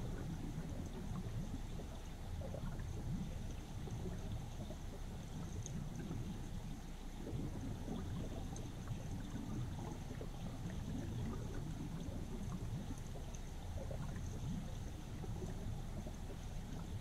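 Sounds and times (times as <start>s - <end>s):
muffled underwater river rushing: 0.0s - 17.0s.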